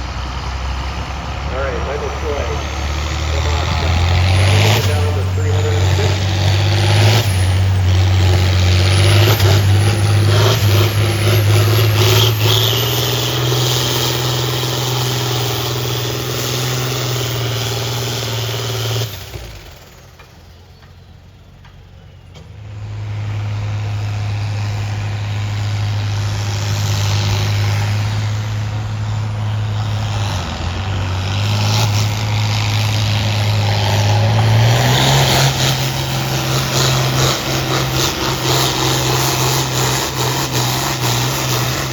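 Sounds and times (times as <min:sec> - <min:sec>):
tractor engine under load: 0:00.0 - 0:41.9.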